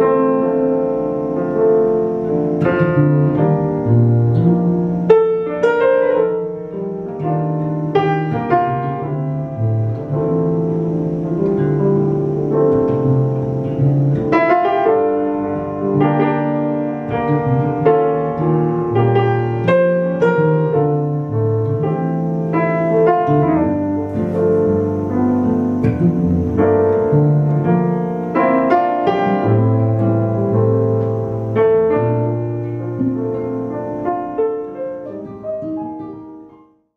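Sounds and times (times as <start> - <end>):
nylon-string guitar: 0.0 - 36.7
grand piano: 0.0 - 36.9.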